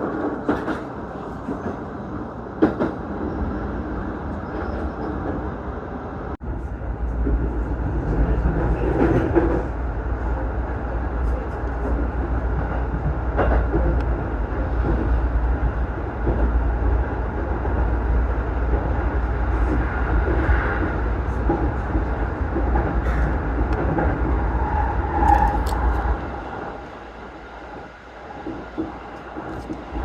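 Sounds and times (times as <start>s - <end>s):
train ride rumble inside carriage: 0.0s - 30.0s.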